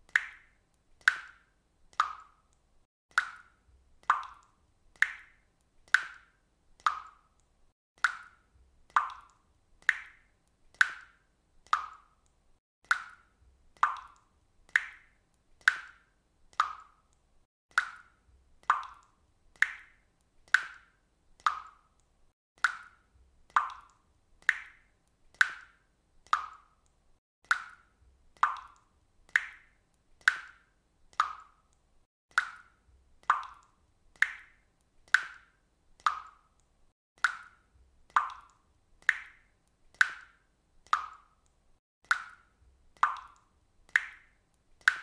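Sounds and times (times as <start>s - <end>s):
water dripping from faucet: 0.0s - 45.0s.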